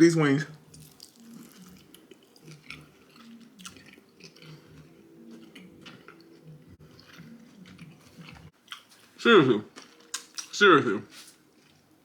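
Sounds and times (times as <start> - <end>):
mouth chewing and smacking: 0.5 - 12.0.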